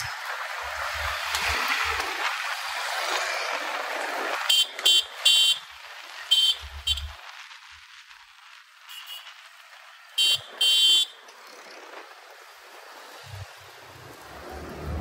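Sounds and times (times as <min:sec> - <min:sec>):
street traffic: 0:00.0 - 0:15.0
wind: 0:00.0 - 0:15.0.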